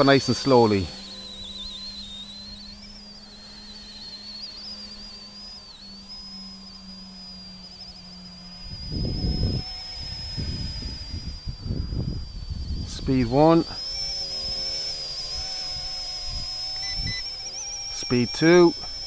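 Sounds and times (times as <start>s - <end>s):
low hum: 0.0s - 19.0s
rc helicopter motor whine: 0.0s - 19.0s.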